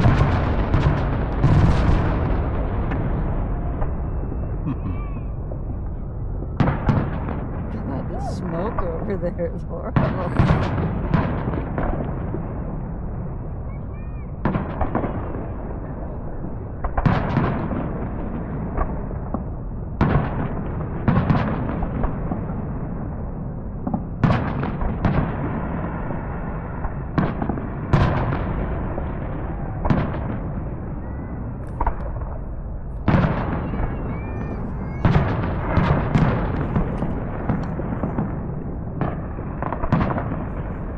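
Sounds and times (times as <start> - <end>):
firework bangs: 0.0 - 5.6, 6.4 - 40.9
distant firework crackling: 0.0 - 40.9.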